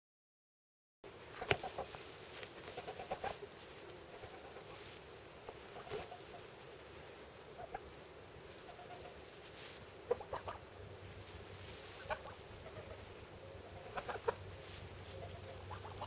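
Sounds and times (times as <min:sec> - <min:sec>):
straw rustling: 0:01.2 - 0:16.0
soft goose calls: 0:01.3 - 0:16.0.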